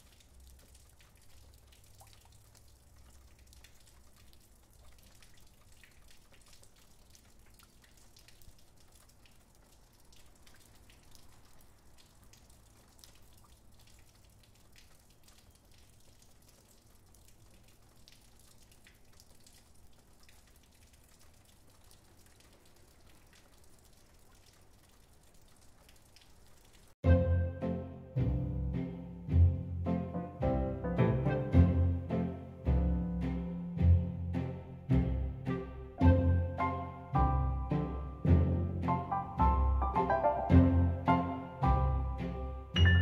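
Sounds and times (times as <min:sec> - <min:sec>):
light rain dripping: 0:00.0 - 0:43.0.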